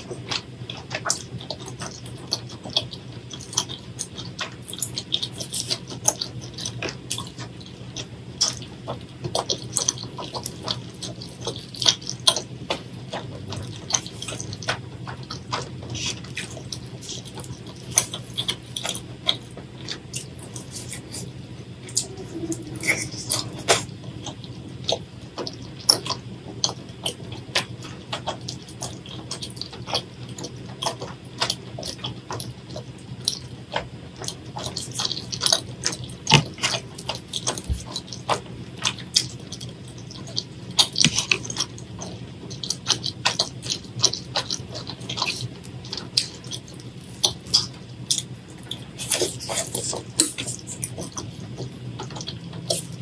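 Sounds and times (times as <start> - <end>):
wet chewing and mouth smacking: 0.0 - 53.0.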